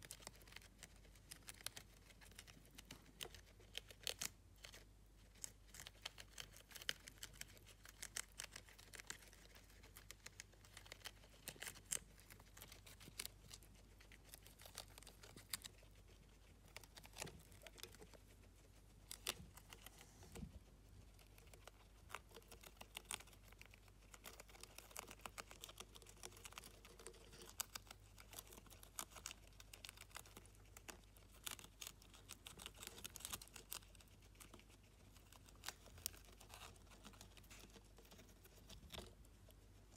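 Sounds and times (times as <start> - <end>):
guinea pigs chewing lettuce: 0.0 - 39.9.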